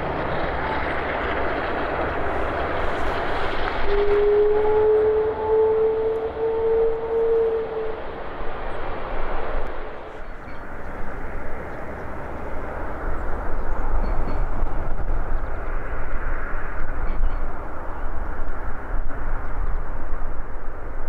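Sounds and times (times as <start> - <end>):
jet airplane approaching rush: 0.0 - 21.0
jet engines humming: 0.0 - 21.0.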